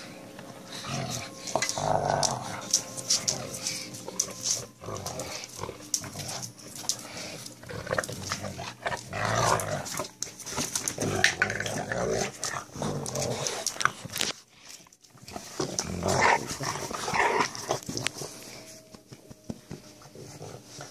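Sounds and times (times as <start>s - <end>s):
dogs playing: 0.0s - 20.9s
claws scrabbling on tile floor: 0.4s - 20.9s.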